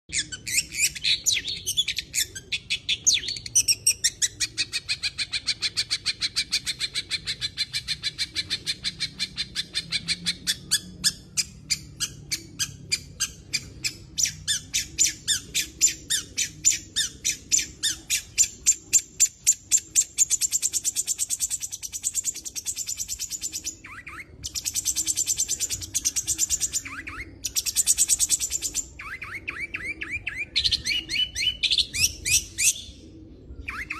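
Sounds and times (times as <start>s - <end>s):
bird singing with mimicked calls: 0.1s - 33.9s.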